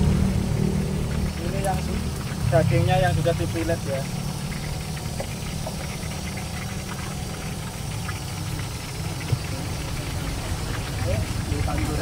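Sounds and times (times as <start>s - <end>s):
gas burner roaring: 0.0s - 12.0s.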